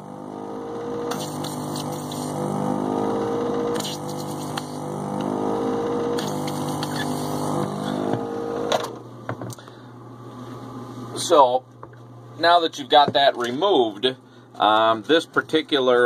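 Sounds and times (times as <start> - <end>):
desoldering pump motor hum: 0.0 - 16.0.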